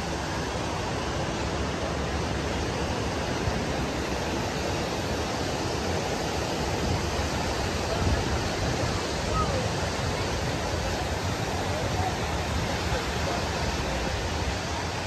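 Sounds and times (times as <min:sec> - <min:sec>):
surf breaking on shore: 0:00.0 - 0:15.0.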